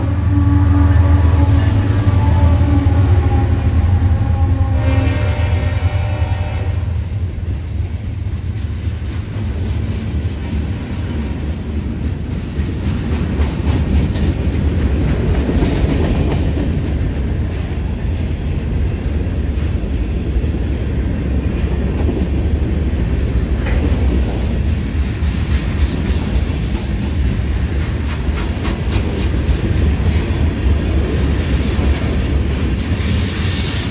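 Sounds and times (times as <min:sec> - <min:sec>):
freight train rumbling: 0:00.0 - 0:33.9.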